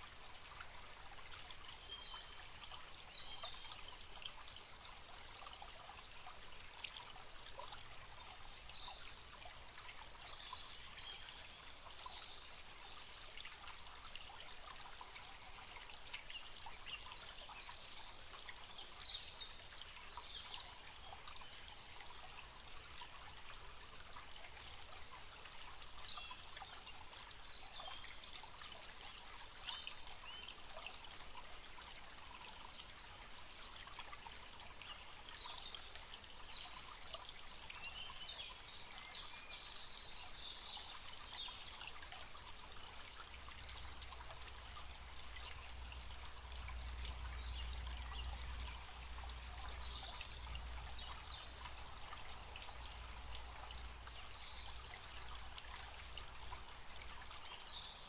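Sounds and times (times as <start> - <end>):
stream trickling and babbling: 0.0 - 58.0.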